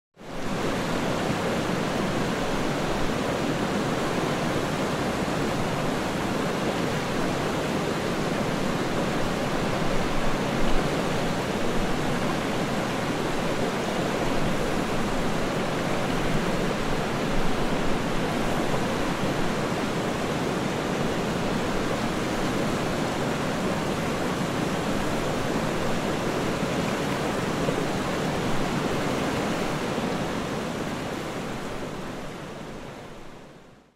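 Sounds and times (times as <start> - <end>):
river rushing: 0.2 - 33.9.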